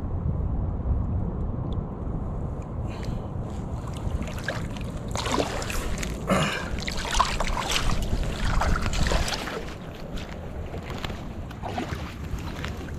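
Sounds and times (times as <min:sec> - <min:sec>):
wind rumble on microphone: 0:00.0 - 0:12.9.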